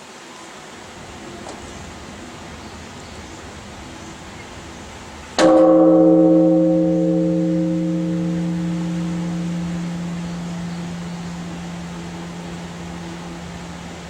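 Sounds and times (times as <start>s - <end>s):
large temple bell ringing: 0.8s - 14.0s.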